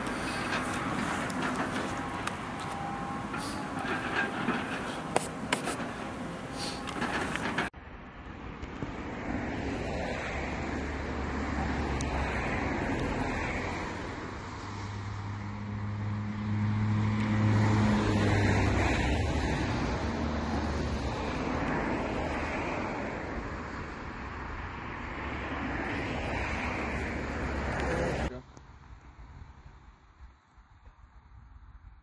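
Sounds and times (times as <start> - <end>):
vehicle engine hum: 0.0 - 30.0
outdoor rushing noise: 0.0 - 31.9.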